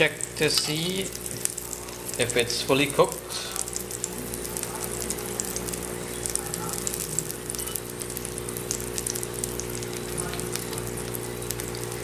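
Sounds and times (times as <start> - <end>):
hot oil sizzling in a pan: 0.0 - 12.0.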